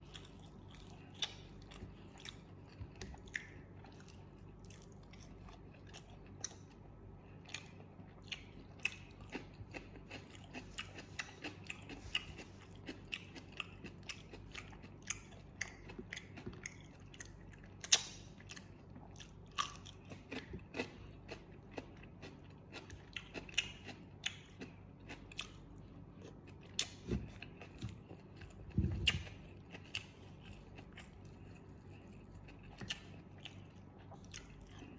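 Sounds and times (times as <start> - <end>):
person chewing crispy food: 0.0 - 34.9.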